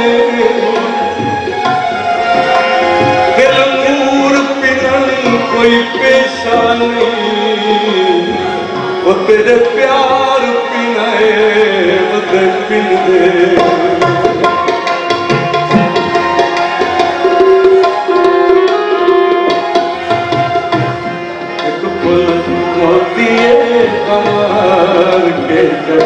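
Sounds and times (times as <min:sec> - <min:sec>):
tabla playing quick rhythm: 0:00.0 - 0:10.8, 0:12.2 - 0:26.0
harmonium held notes: 0:00.0 - 0:26.0.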